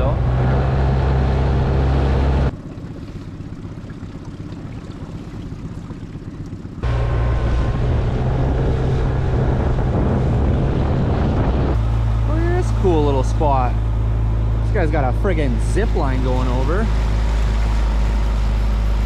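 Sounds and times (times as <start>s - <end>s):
outboard motor running: 0.0s - 19.0s
wind and water rushing: 0.0s - 19.0s.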